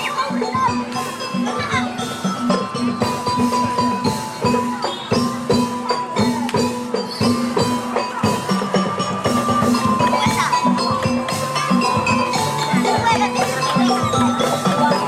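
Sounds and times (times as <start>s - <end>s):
fast struck percussion: 0.0s - 15.0s
gamelan music: 0.0s - 15.0s
held melody notes: 0.0s - 15.0s.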